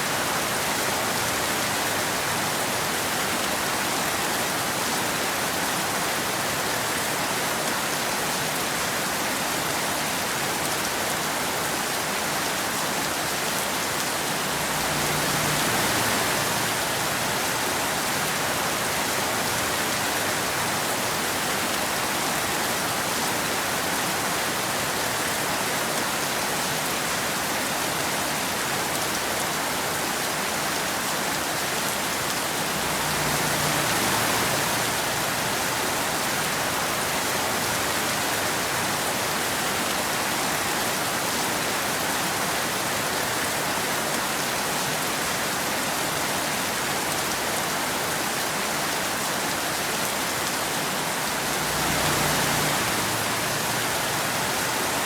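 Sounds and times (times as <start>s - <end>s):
rain falling on road and trees: 0.0s - 55.0s.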